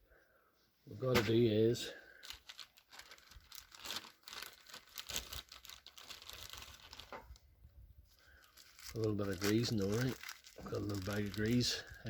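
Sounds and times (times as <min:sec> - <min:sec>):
plastic bag rustling: 0:01.1 - 0:12.0.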